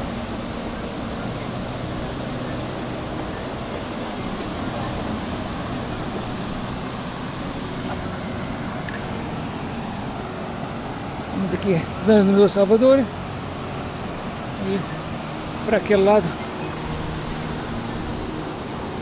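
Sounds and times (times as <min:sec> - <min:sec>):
ocean surf: 0:00.0 - 0:19.0.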